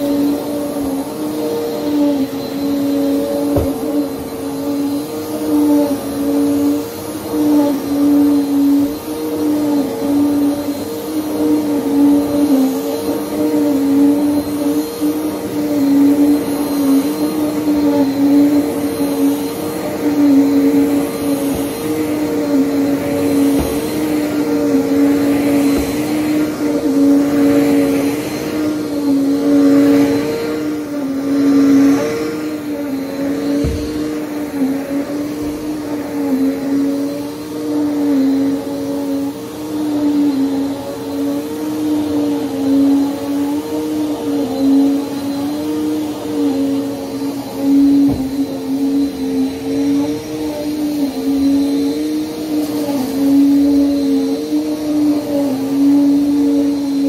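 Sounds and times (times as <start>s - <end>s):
vacuum cleaner on carpet: 0.0s - 57.0s.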